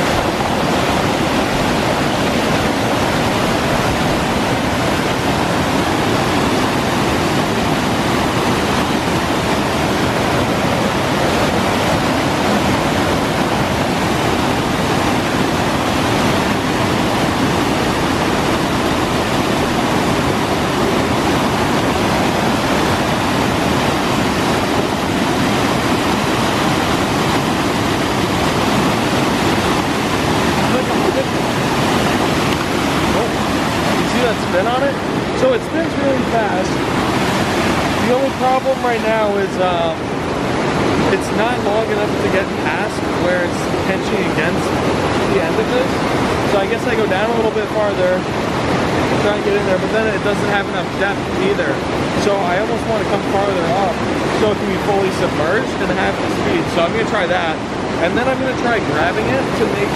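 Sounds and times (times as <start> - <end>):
river pouring over a dam: 0.0 - 59.9.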